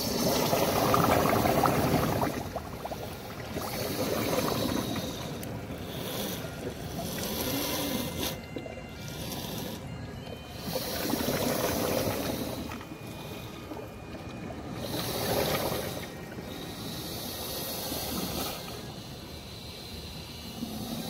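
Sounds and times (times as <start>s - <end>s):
water lapping among rocks: 0.0s - 17.0s.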